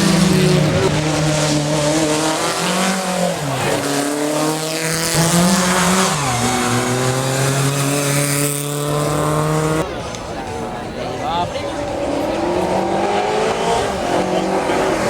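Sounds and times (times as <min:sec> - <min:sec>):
race car engine at full throttle: 0:00.0 - 0:15.0.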